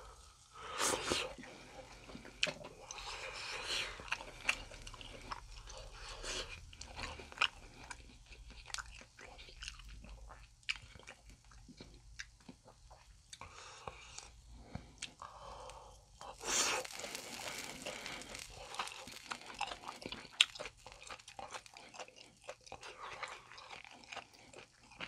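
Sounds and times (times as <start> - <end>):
chewing: 1.0 - 25.0.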